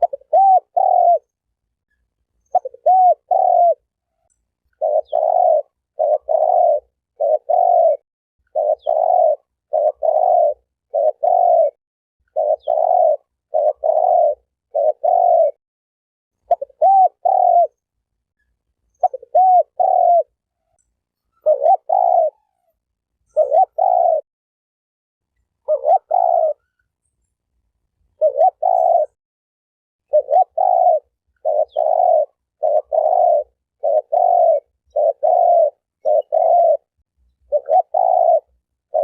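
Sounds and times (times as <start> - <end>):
dove cooing: 0.0 - 1.4, 2.4 - 15.6, 16.4 - 17.8, 19.0 - 24.3, 25.6 - 26.8, 28.2 - 29.2, 30.1 - 39.0.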